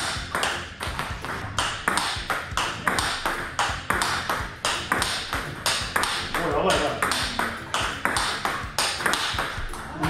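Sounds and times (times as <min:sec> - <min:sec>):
table tennis ball clicking: 0:00.0 - 0:09.8.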